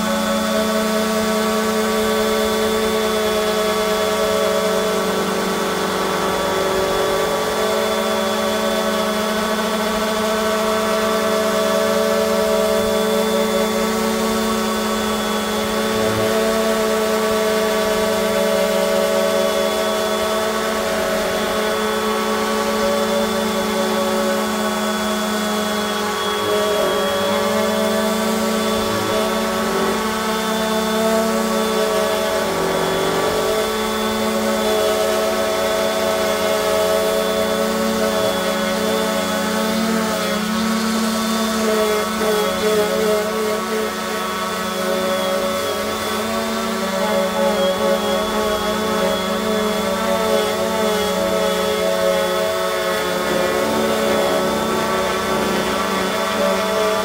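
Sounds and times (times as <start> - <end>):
orbital sander humming: 0.0 - 57.0
thin high whine: 0.0 - 57.0.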